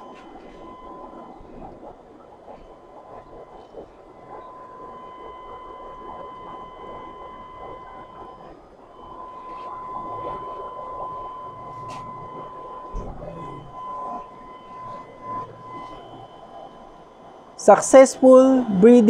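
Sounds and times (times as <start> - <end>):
aquarium aerator whine: 0.0 - 19.0.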